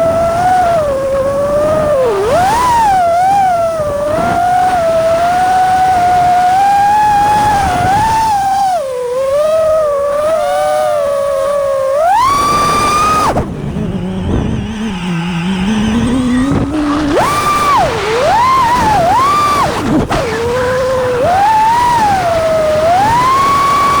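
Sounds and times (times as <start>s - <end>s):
drone motors and propellers whining: 0.0s - 24.0s.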